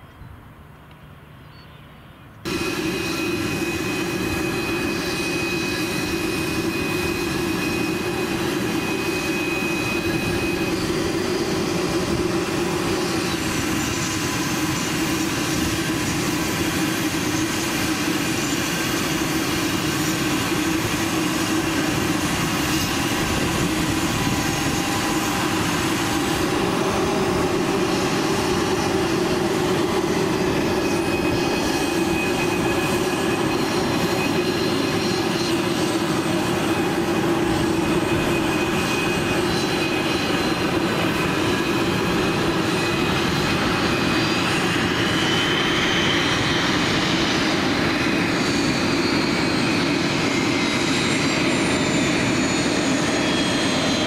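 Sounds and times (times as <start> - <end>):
jet engine whine: 0.0 - 54.0.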